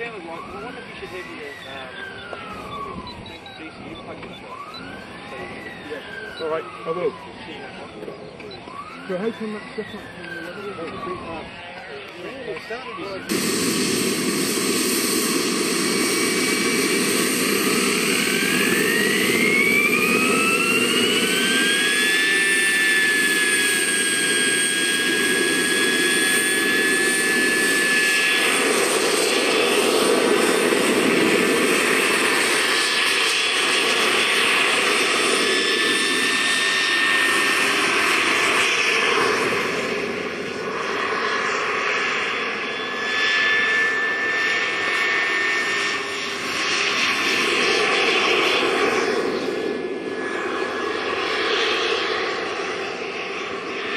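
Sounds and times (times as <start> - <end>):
model helicopter jet turbine: 0.0 - 53.9.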